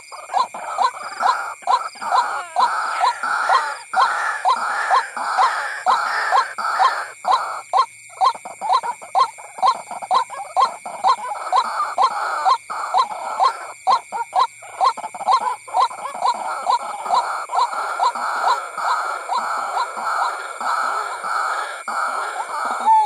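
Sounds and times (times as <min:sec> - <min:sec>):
bird calling harsh repeated notes: 0:00.0 - 0:23.0.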